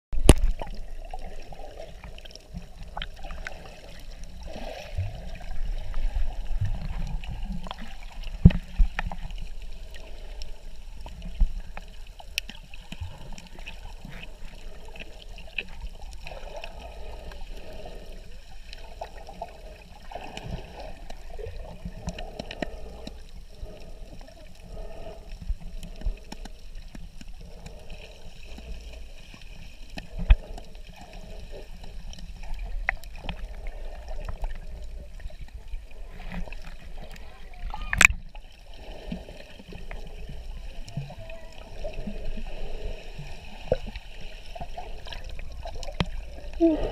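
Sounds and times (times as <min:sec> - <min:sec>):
underwater rumble: 0:00.2 - 0:46.9
water sloshing and gurgling: 0:00.2 - 0:46.9.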